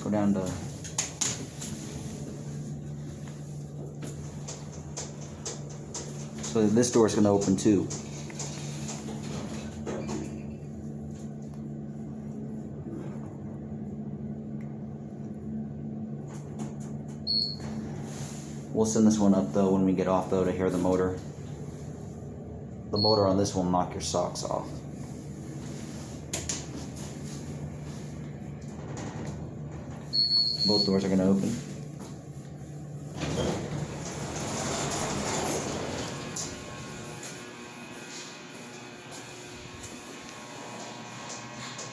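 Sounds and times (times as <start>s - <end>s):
elevator hum: 0.0s - 41.9s.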